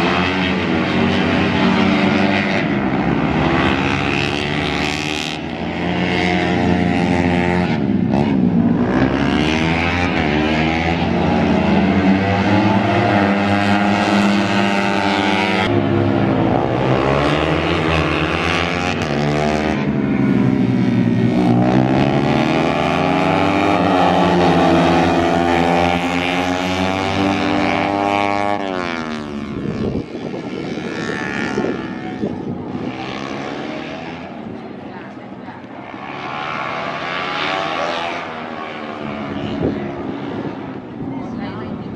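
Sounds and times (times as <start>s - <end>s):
racing motorcycle engines: 0.0s - 41.9s.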